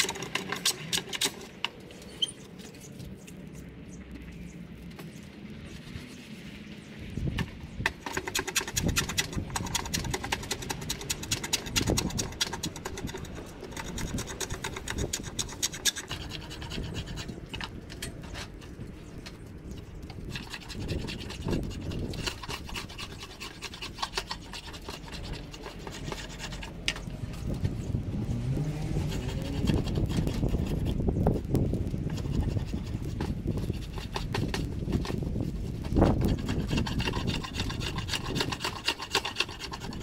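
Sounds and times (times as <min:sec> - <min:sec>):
blade scraping wood: 0:00.0 - 0:03.0, 0:07.9 - 0:40.0.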